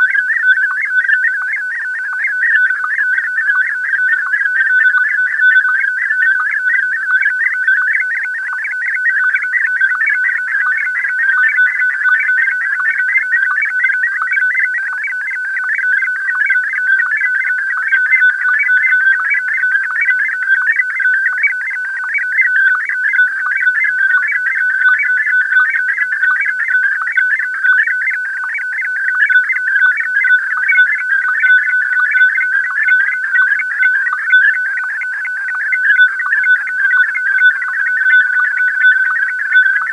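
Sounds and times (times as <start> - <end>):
warbling data signal with ticks: 0.0 - 39.9.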